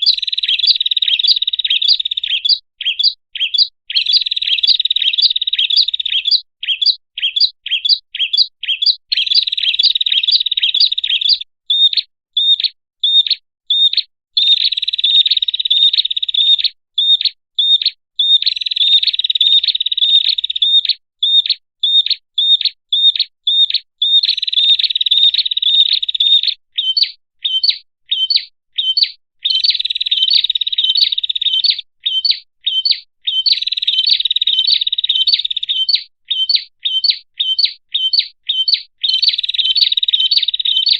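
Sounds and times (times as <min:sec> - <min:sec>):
bird sharp chirps: 0:00.0 - 0:40.9.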